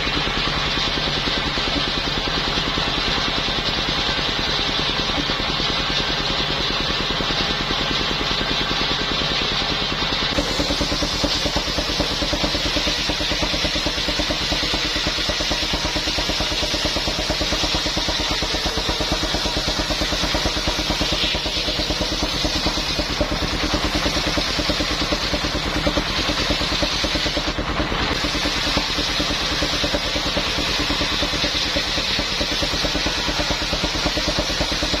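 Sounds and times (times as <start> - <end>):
engine-driven sawmill running: 0.0 - 35.0.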